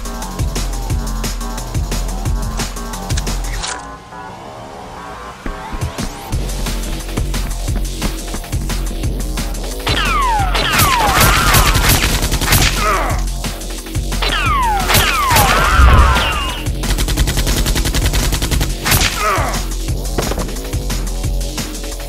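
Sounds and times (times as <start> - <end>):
electronic background music: 0.0 - 22.0.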